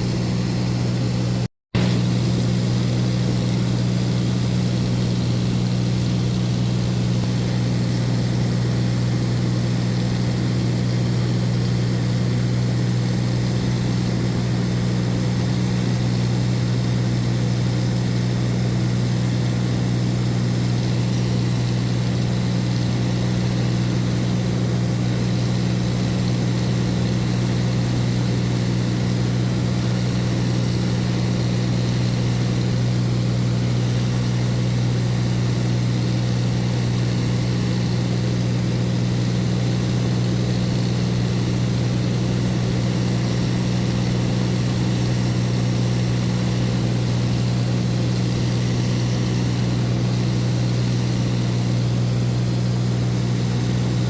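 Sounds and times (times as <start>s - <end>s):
propeller aircraft engine in cabin: 0.0s - 54.0s.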